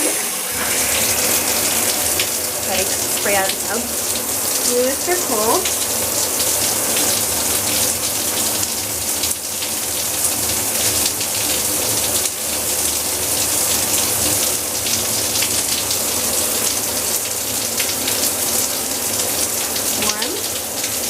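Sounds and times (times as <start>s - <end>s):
shower spraying into a bathtub: 0.0s - 21.0s.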